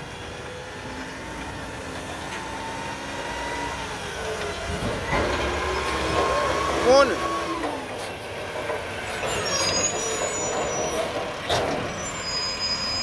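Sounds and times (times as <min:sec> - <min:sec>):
garbage truck diesel engine: 0:00.0 - 0:13.0.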